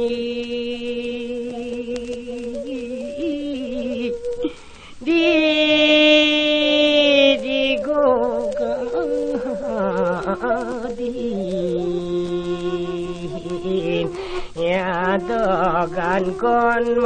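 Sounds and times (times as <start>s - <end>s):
person singing folk song solo: 0.0s - 17.0s.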